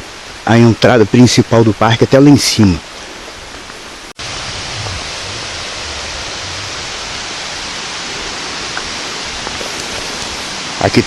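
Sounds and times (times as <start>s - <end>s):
forest river rushing: 0.0s - 11.0s.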